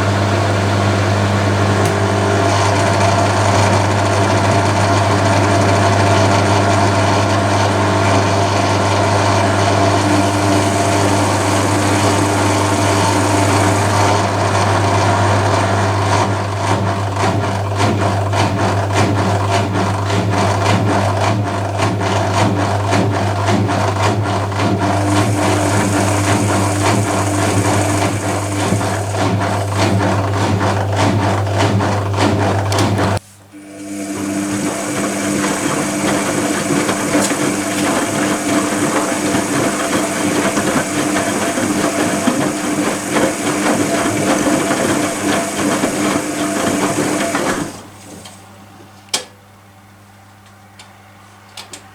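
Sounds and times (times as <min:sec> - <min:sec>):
washing machine motor humming: 0:00.0 - 0:48.9.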